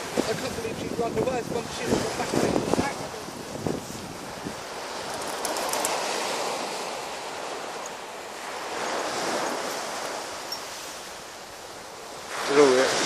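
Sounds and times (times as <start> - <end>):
sea surf washing on shore: 0.0 - 13.0
wind on microphone: 0.0 - 13.0.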